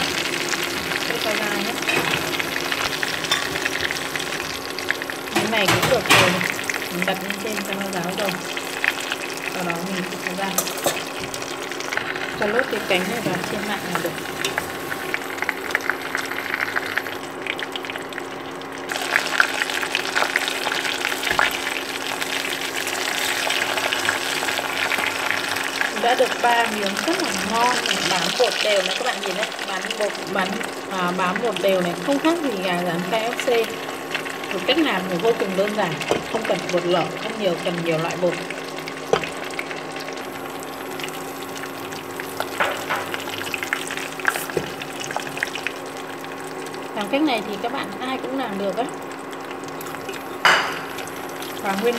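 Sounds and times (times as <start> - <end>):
chicken deep-frying in oil: 0.0 - 51.9
steady hum: 0.0 - 51.9.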